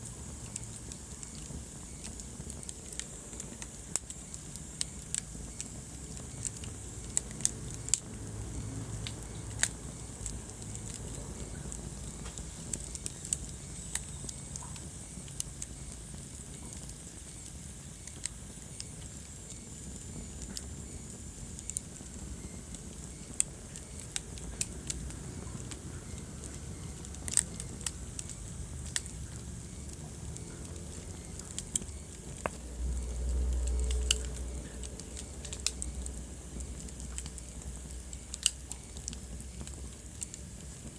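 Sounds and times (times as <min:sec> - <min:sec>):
low steady rumble: 0:00.0 - 0:40.9
wood fire crackling and popping: 0:00.0 - 0:40.9.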